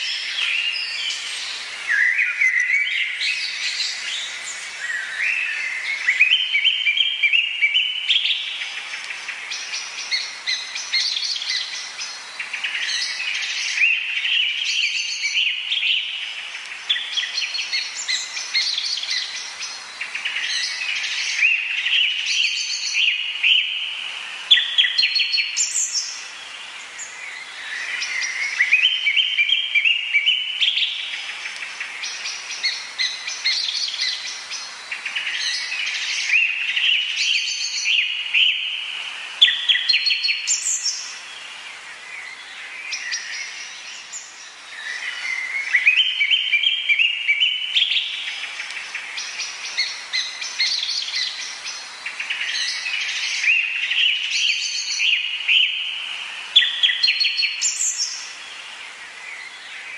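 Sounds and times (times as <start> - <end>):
birds singing and calling: 0.0 - 59.9.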